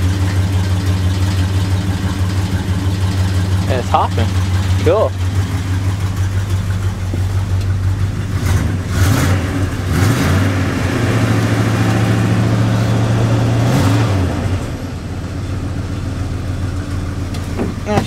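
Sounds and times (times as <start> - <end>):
truck engine revving and idling: 0.0 - 18.0.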